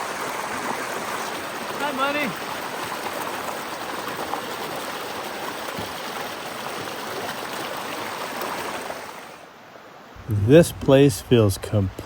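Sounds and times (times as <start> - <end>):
creek water rushing over rocks: 0.0 - 12.0.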